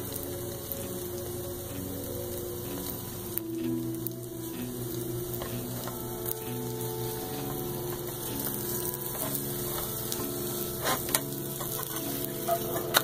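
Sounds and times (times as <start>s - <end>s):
eggs sizzling in a pan: 0.0s - 13.0s
soft background music: 0.0s - 13.0s.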